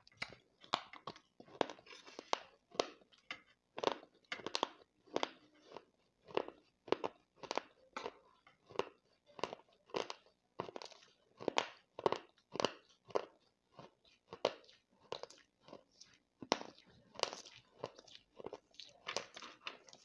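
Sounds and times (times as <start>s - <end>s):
person chewing gritty crunch: 0.0s - 20.0s.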